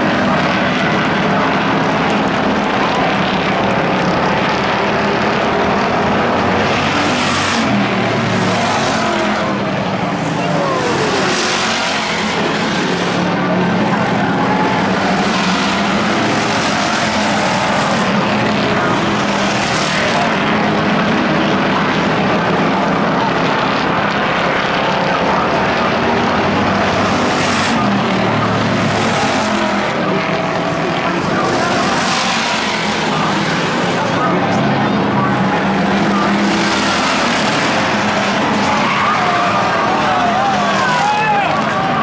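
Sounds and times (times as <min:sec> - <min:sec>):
race car engines running: 0:00.0 - 0:42.0.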